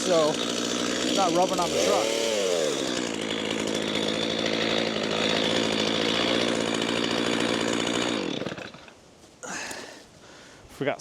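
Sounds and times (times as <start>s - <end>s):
chainsaw running and winding down: 0.0s - 9.9s.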